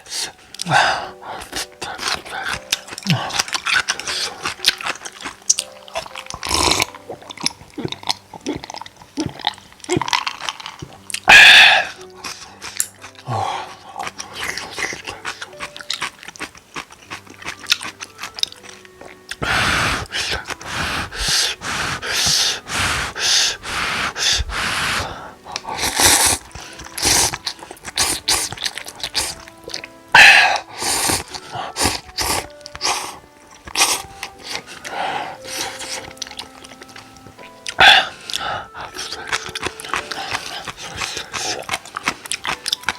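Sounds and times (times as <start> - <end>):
chewing: 0.0 - 42.9
noodles slurping: 0.0 - 42.9
quiet background music: 0.0 - 42.9.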